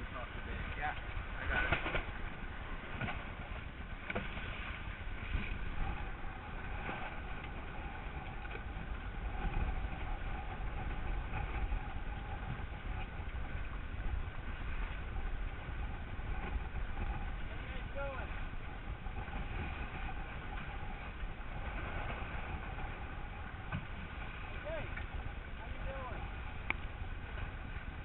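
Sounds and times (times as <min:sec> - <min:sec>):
water rushing past hull: 0:00.0 - 0:28.0
wind buffeting microphone: 0:00.0 - 0:28.0.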